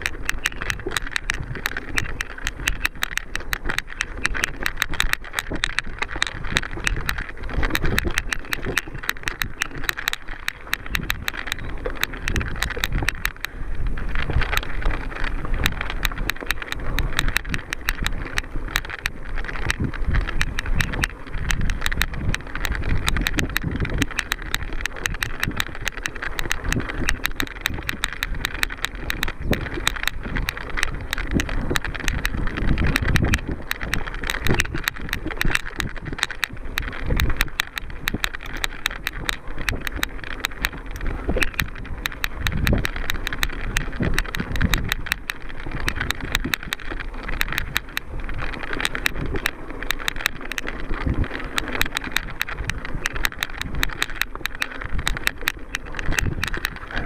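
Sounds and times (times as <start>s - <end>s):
mountain bike rattling on trail: 0.0s - 57.0s
wind rumbling on microphone: 0.0s - 57.0s.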